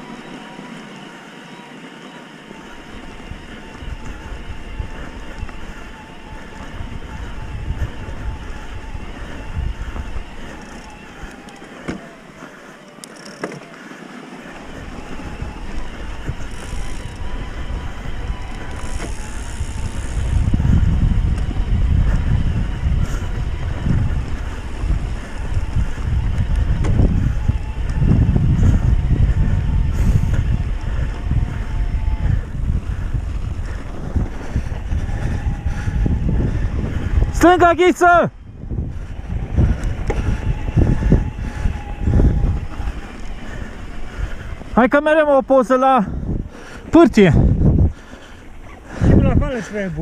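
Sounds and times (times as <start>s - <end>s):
faint steady whine: 0.0s - 50.0s
wind buffeting microphone: 2.3s - 12.9s, 13.6s - 50.0s.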